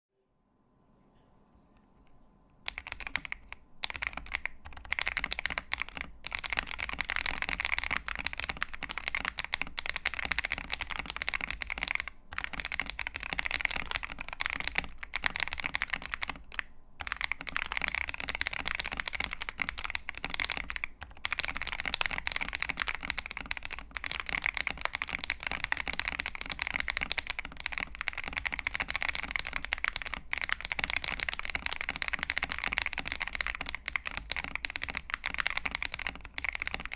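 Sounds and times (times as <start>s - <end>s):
typing on mechanical keyboard: 2.7s - 36.9s.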